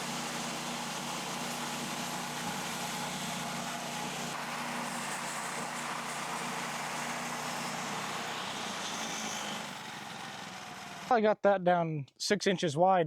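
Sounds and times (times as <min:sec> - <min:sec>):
sawmill running: 0:00.0 - 0:11.1.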